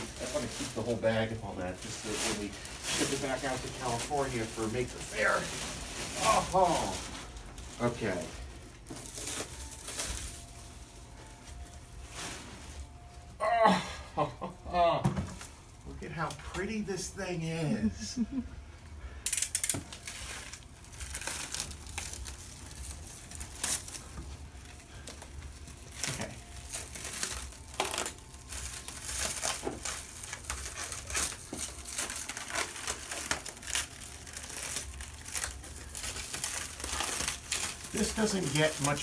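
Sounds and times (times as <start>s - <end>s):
plastic wrap crinkling: 0.0s - 13.4s, 19.2s - 39.0s.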